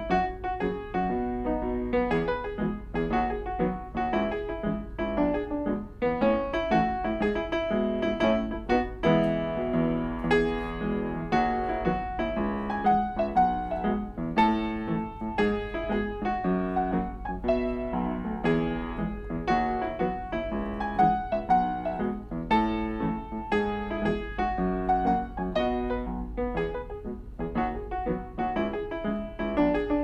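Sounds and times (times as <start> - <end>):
solo piano: 0.0 - 30.0.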